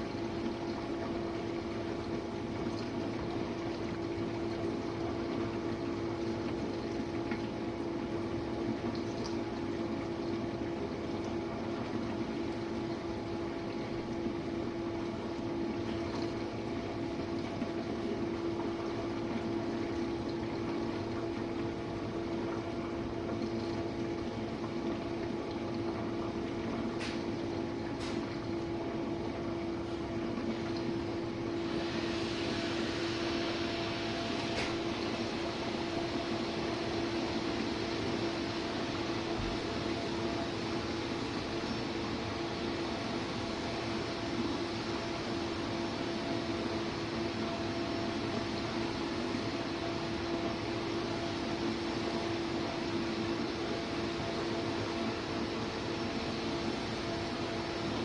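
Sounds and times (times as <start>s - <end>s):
dishwasher pump motor hum: 0.0s - 58.0s
water spraying inside dishwasher: 11.4s - 58.0s.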